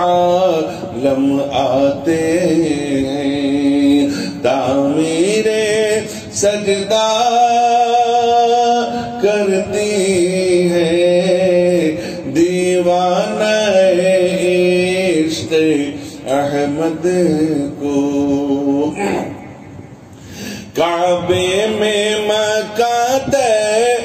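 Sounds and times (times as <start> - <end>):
man singing into a microphone: 0.0 - 19.8, 20.6 - 24.0.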